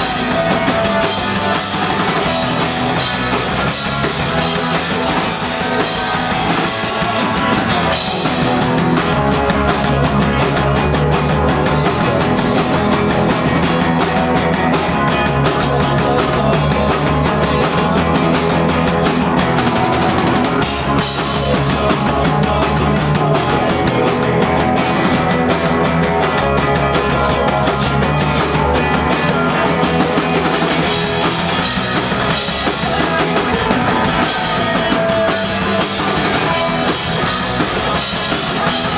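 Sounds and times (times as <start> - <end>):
punk rock band playing live: 0.0 - 38.9.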